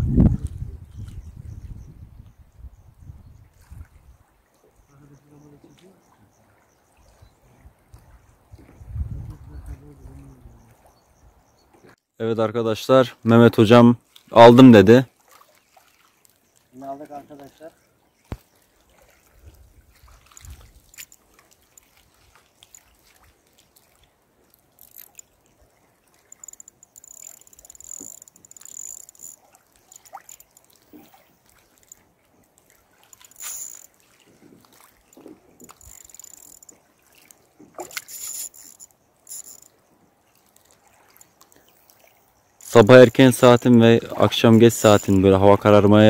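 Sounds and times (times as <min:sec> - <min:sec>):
water trickling and splashing: 0:02.8 - 0:12.0, 0:12.9 - 0:46.0.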